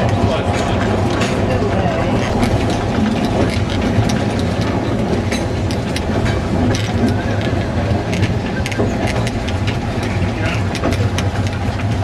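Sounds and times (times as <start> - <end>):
train carriage rumble: 0.0 - 12.0
wheels clicking over rail joints: 0.0 - 12.0.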